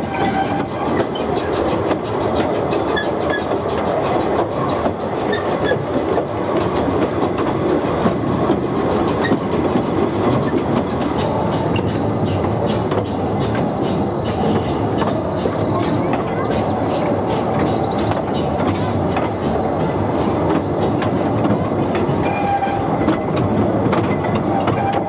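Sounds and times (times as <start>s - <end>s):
train wheels clattering over rail joints: 0.0s - 25.0s.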